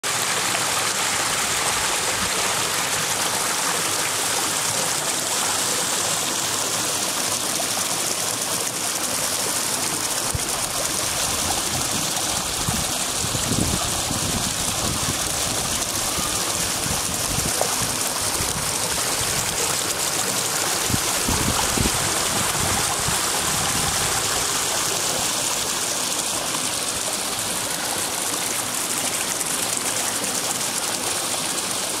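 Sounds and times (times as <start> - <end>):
stream flowing over rocks: 0.0 - 32.0.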